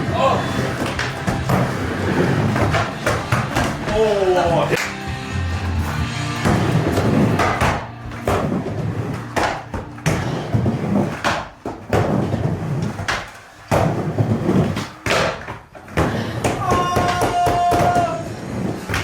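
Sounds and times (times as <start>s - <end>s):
skateboard knocking on ramp: 0.0s - 4.9s, 5.7s - 19.0s
skateboard wheels rumbling: 0.0s - 19.0s.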